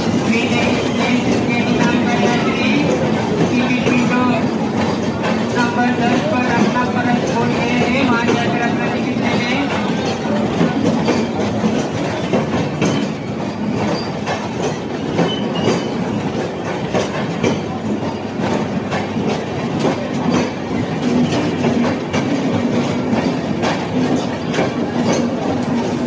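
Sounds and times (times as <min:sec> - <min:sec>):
train coaches rumbling past: 0:00.0 - 0:26.0
wheels clattering over rail joints: 0:00.0 - 0:26.0.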